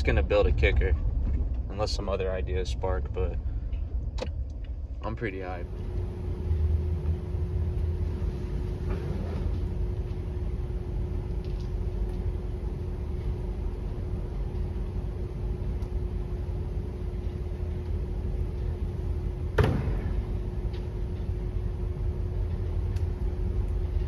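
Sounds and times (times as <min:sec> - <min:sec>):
car cabin rumble and hum: 0:00.0 - 0:22.6.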